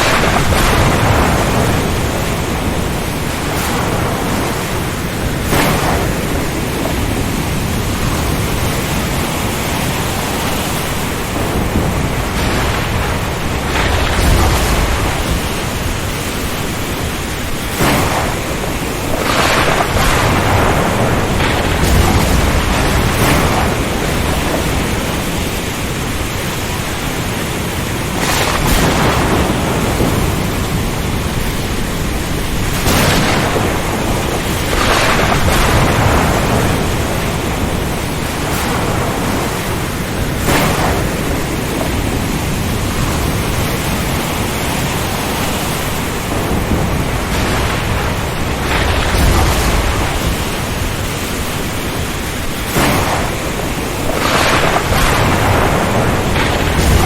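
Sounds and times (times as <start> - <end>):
heavy rain: 0.0 - 57.0
surf roaring: 0.0 - 57.0
thunder crashes and rumbles: 0.0 - 57.0
wind: 0.0 - 57.0.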